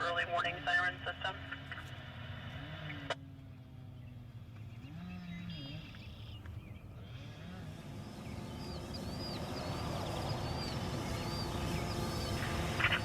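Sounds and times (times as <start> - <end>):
low outdoor rumble: 0.0 - 13.0
small birds chirping: 2.4 - 13.0.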